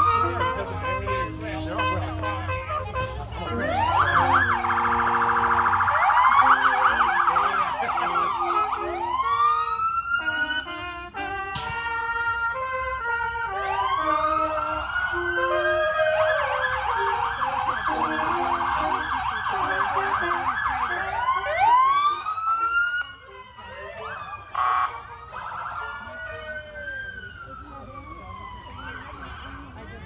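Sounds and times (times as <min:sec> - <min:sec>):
electronic police siren: 0:00.0 - 0:00.7, 0:03.4 - 0:10.8, 0:11.5 - 0:30.0
trumpet notes: 0:00.0 - 0:26.3.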